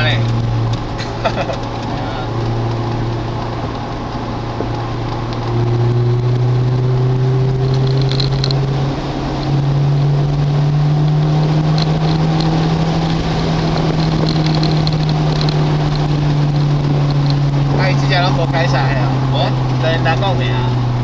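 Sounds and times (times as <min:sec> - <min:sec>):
car engine revving under load: 0:00.0 - 0:21.0.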